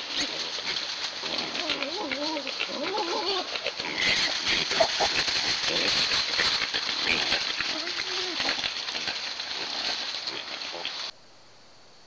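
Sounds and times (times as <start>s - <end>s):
hogs grunting: 0.0s - 11.1s
wavering pitched animal calls: 0.0s - 11.1s
rustling of dry leaves: 0.0s - 11.2s.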